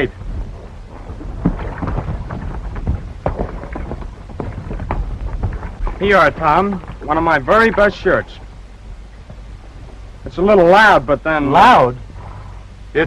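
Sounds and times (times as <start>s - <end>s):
horse hooves on dirt: 0.0s - 12.7s
film soundtrack rumble and hiss: 0.0s - 13.0s.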